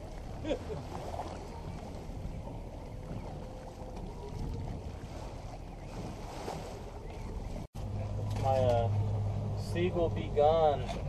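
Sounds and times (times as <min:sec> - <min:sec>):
boat motor rumbling: 0:00.0 - 0:11.0
water washing along hull: 0:00.0 - 0:11.0.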